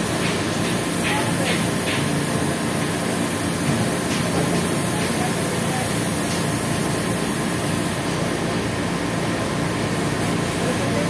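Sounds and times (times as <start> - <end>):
machine running hum and hiss: 0.0 - 11.0.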